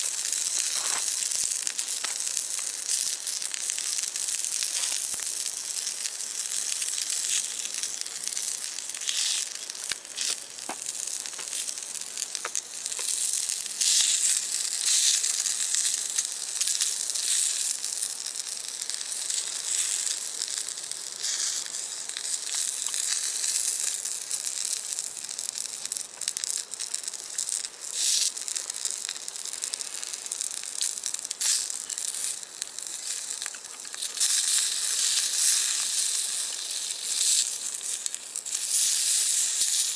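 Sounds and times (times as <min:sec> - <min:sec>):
crackles and pops: 0:00.0 - 0:39.9
food sizzling in a skillet: 0:00.0 - 0:39.9.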